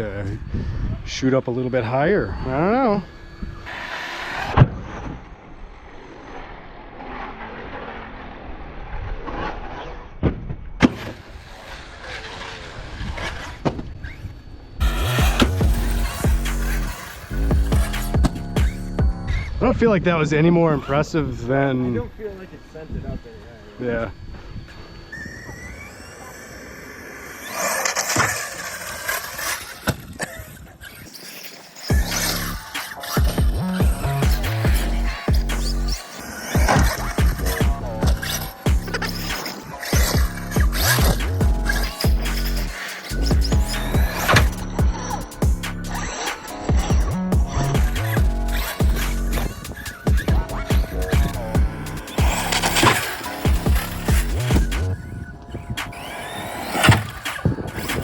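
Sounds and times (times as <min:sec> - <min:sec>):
rc truck motor and tyres: 0:00.0 - 0:58.0.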